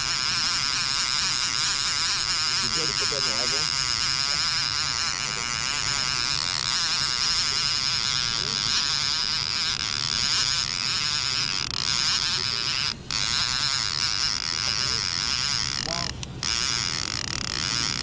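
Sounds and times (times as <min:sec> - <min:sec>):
outboard motor humming with whine: 0:00.0 - 0:18.0.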